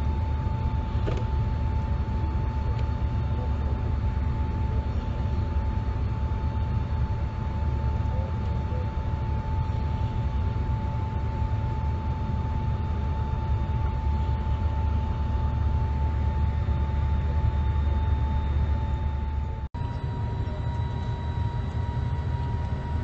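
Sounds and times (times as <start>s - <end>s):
airliner cabin low rumble: 0.0s - 23.0s.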